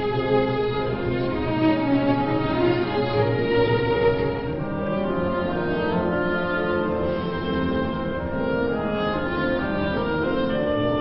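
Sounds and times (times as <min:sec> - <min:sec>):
symphony orchestra playing: 0:00.0 - 0:11.0.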